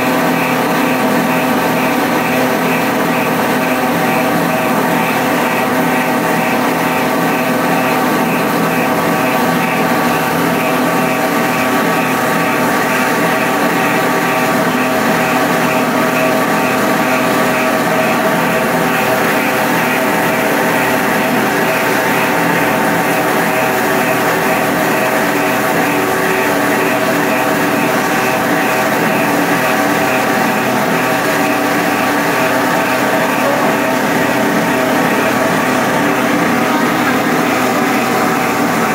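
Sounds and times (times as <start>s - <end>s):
plastic extruder machine droning: 0.0s - 38.9s.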